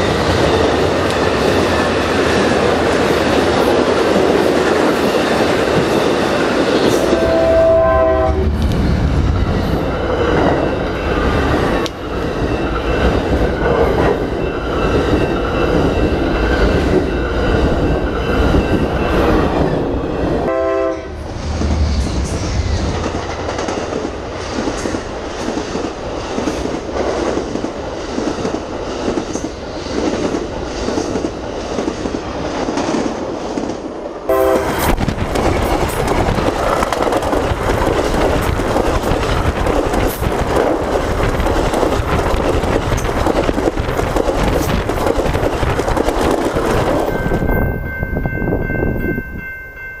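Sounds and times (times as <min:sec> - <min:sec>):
train wheels rumbling over rails: 0:00.0 - 0:49.0.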